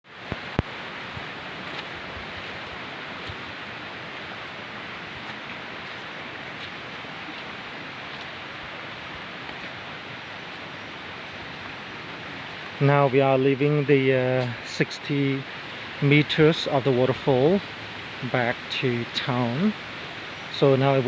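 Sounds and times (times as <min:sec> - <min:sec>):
waterfall roaring: 0:00.1 - 0:21.0.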